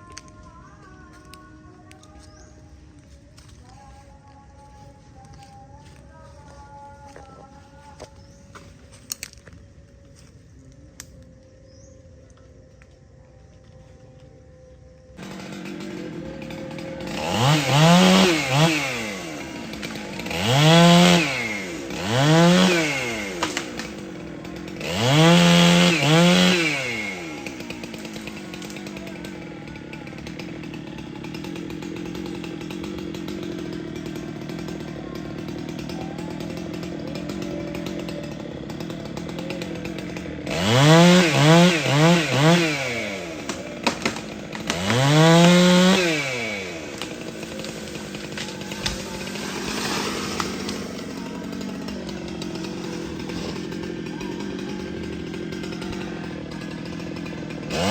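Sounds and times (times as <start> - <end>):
chainsaw engine revving and idling: 0.0 - 10.4, 14.5 - 57.9.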